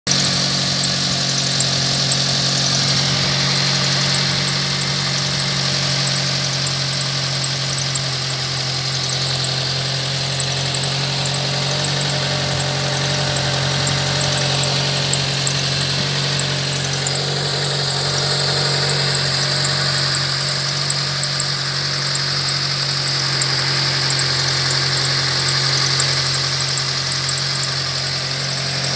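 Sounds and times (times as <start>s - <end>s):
car engine idling: 0.0s - 28.9s
high squeak or whistle: 0.1s - 28.9s.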